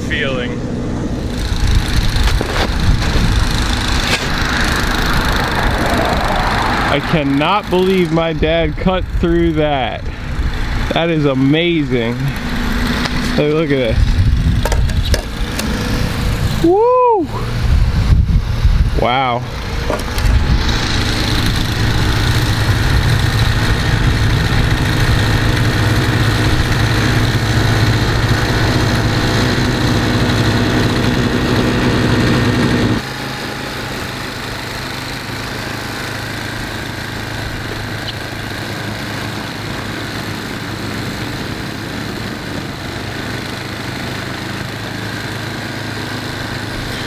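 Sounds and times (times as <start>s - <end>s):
snowblower engine running: 0.1s - 47.0s.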